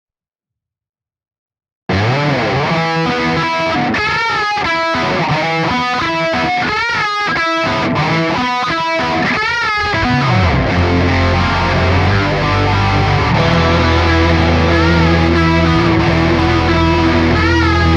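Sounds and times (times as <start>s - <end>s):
distorted electric guitar riff: 1.9s - 17.9s.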